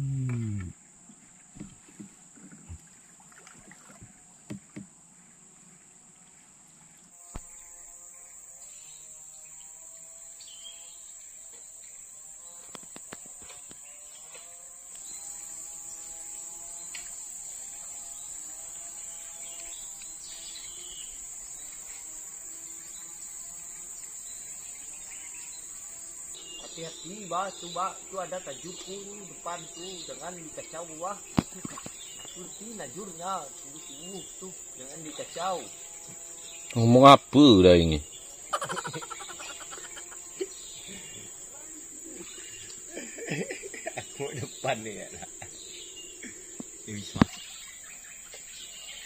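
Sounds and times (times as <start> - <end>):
insect chorus drone: 0.0 - 49.0.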